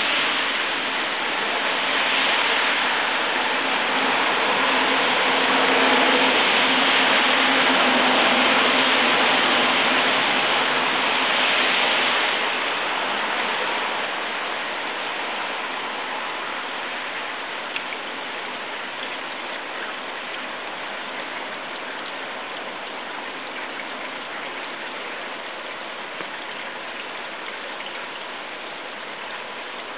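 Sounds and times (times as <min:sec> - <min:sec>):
water pattering on wet surfaces: 0:00.0 - 0:29.9.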